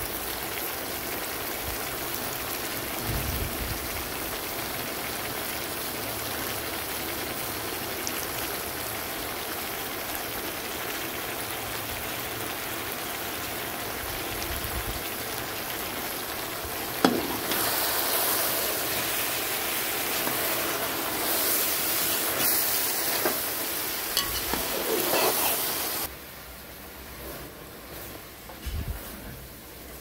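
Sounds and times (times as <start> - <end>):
food sizzling in hot oil: 0.0 - 26.1.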